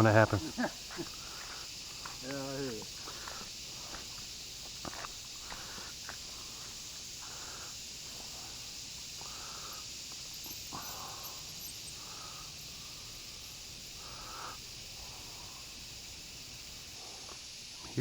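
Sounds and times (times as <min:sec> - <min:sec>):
insect chorus hissing: 0:00.0 - 0:18.0.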